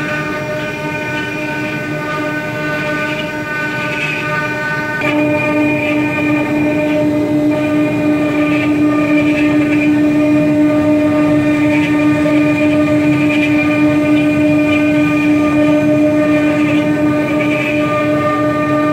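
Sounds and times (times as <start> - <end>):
cnc router spindles whining: 0.0 - 18.9.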